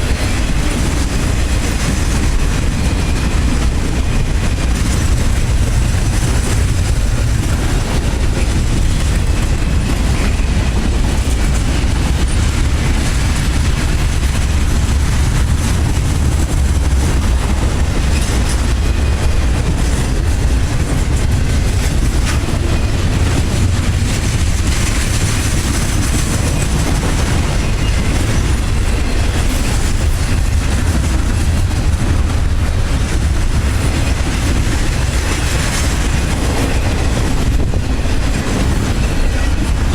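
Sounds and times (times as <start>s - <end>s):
train cars rumbling past: 0.0s - 39.9s
wheels clacking over rail joints: 0.0s - 39.9s.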